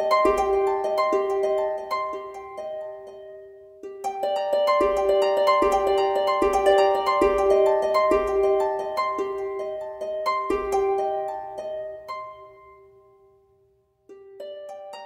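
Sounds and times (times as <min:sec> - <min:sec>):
plucked instrumental melody: 0:00.0 - 0:15.0.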